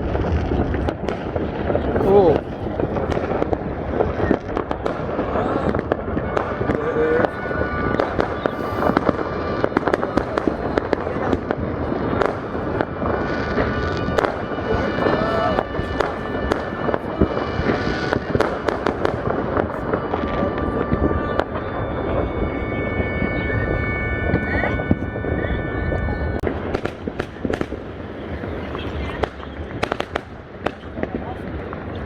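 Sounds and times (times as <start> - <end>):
fireworks bangs and crackle: 0.0 - 32.0.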